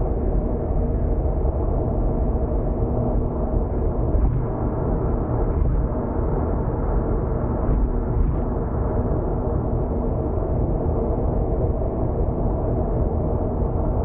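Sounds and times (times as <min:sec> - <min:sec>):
faint steady hum: 0:00.0 - 0:14.0
engine drone: 0:00.1 - 0:14.0.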